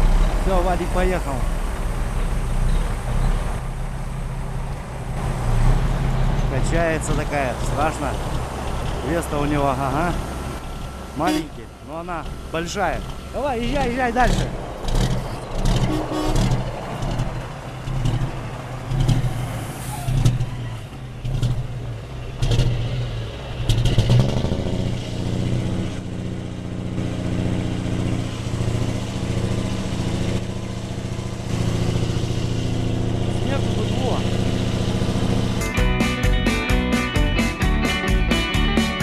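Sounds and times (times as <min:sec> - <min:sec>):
heavy truck engine running: 0:00.0 - 0:39.0.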